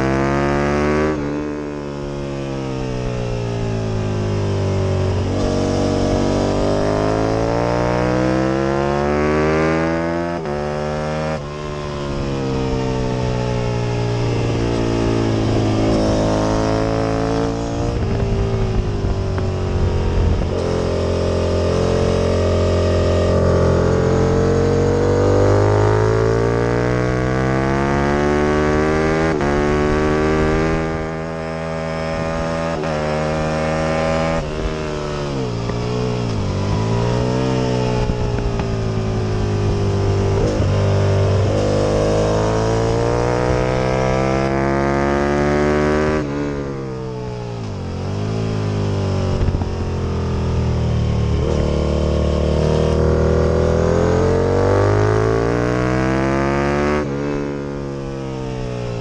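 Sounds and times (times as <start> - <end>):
racing motorcycle engine revving: 0.0 - 59.0.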